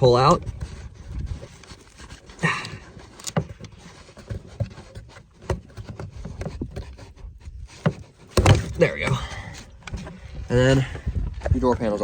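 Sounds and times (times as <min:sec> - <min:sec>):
handling noise: 0:00.0 - 0:12.0.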